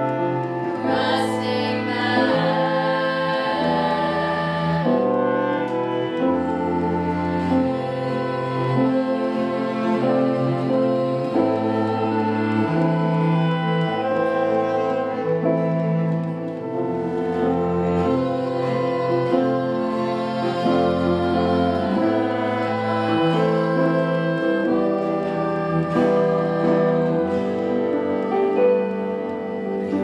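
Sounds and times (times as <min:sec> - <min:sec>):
chamber folk ensemble playing chords: 0:00.0 - 0:30.0.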